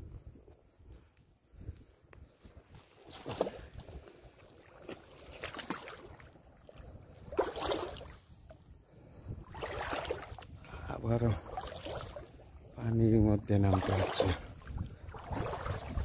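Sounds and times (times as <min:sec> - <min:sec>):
wading through water: 0:01.6 - 0:16.0.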